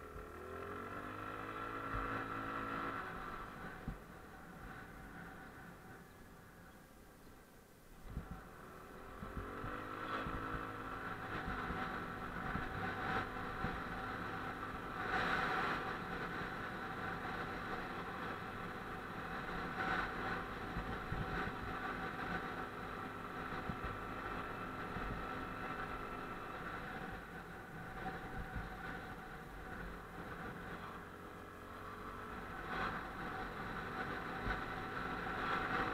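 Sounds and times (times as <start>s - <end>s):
motorcycle engine accelerating: 0.0s - 6.8s, 8.0s - 35.9s.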